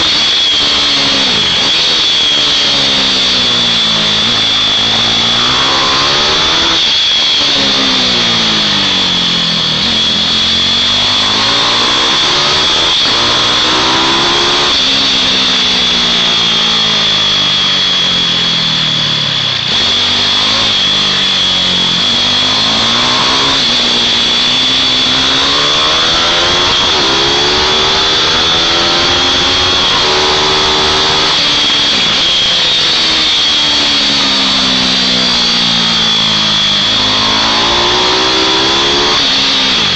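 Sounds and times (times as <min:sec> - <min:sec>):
mini bike engines revving: 0:00.0 - 0:39.9.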